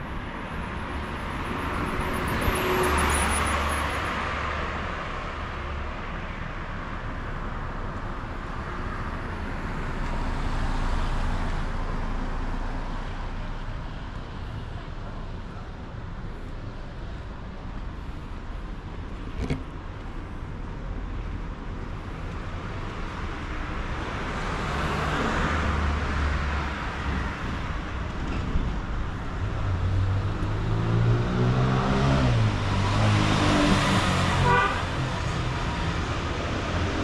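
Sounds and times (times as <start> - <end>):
cars passing: 0.0 - 37.0.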